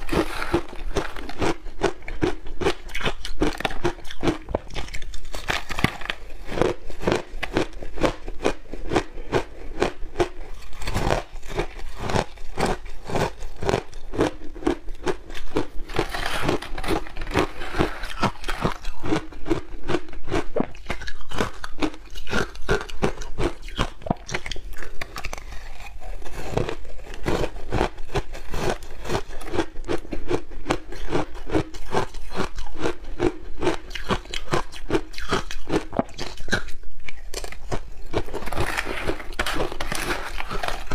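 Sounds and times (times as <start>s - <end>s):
chewing crunchy shaved ice: 0.0s - 40.9s.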